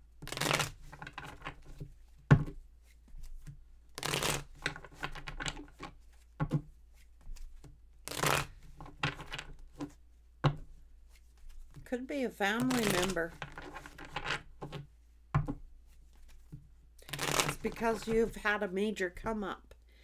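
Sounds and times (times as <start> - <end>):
cards shuffling: 0.2 - 11.8, 12.6 - 18.4.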